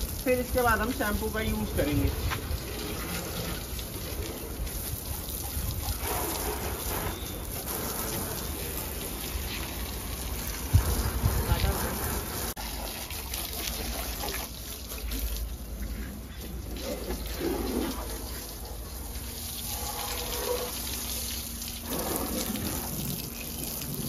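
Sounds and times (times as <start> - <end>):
hose spraying water on car: 0.0 - 24.0.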